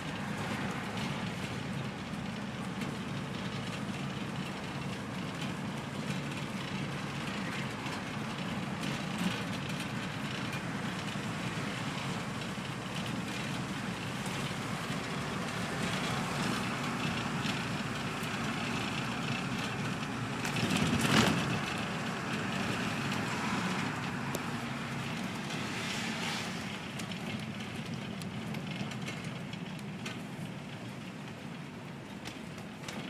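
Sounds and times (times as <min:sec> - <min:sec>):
bus engine and road noise: 0:00.0 - 0:33.0.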